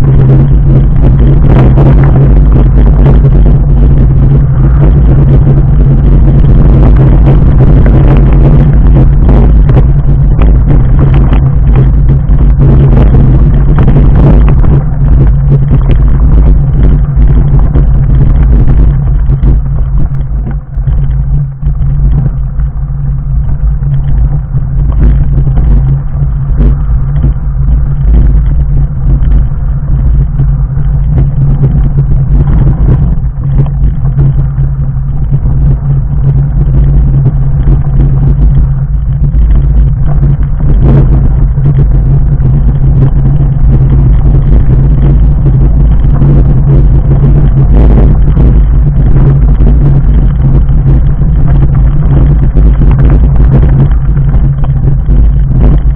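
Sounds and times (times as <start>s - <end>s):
bike rattling: 0.0s - 55.9s
bike tyres rolling over gravel: 0.0s - 55.9s.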